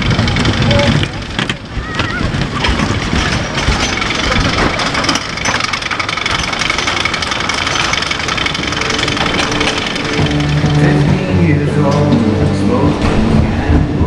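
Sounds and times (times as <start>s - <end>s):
machinery clattering: 0.0s - 14.0s.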